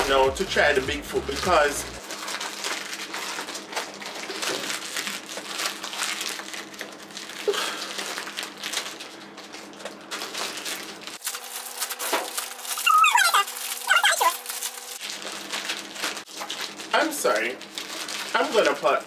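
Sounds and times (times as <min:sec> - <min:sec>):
plastic snack bag crinkling: 0:02.0 - 0:19.0.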